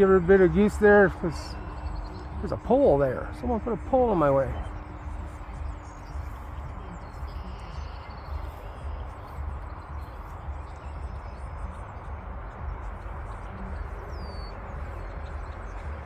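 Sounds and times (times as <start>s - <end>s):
low uneven rumble: 0.0s - 16.0s.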